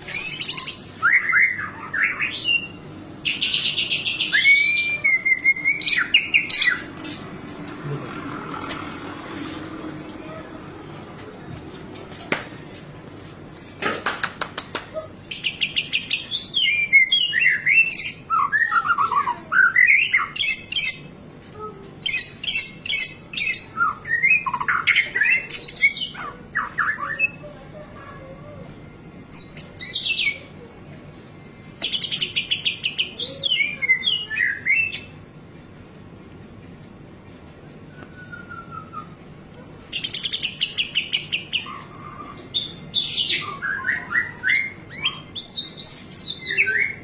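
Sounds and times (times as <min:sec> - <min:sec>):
songbird singing: 0:00.0 - 0:11.6, 0:15.0 - 0:35.4, 0:37.4 - 0:47.0.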